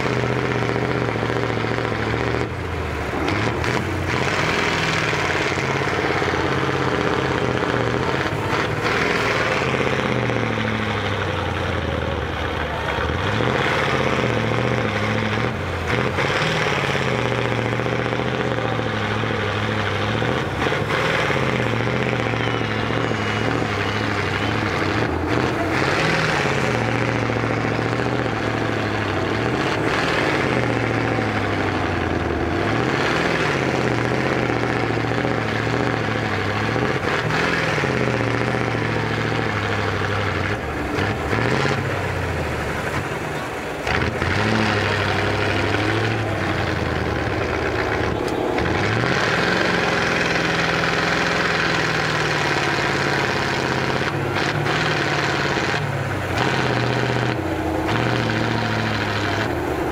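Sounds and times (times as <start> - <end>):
truck engine revving under load: 0.0 - 59.9.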